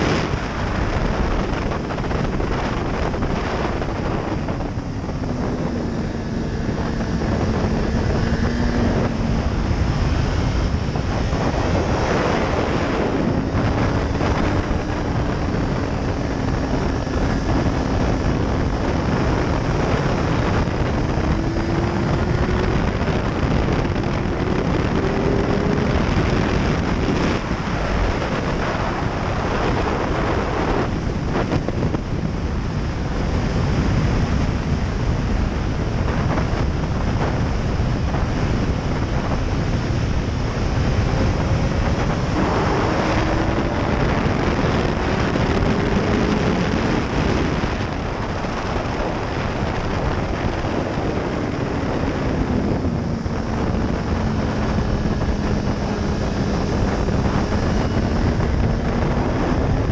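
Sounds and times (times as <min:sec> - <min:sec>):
motorcycle engine: 0:00.0 - 0:59.9
wind rush on microphone: 0:00.0 - 0:59.9.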